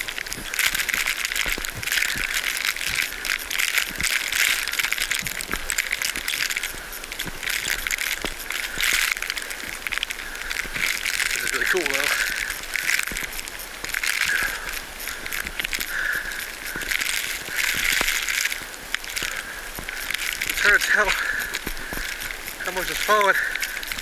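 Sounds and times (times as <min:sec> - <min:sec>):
footsteps crunching through snow: 0:00.0 - 0:24.0
steady hiss: 0:00.0 - 0:24.0.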